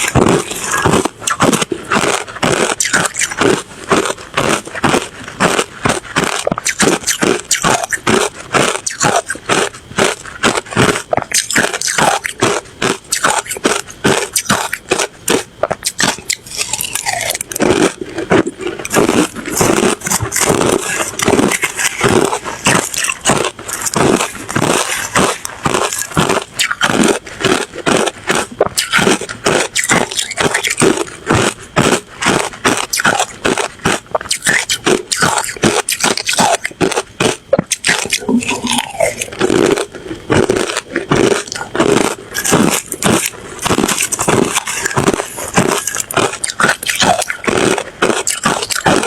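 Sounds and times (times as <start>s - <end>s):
person chewing ice: 0.0s - 49.0s.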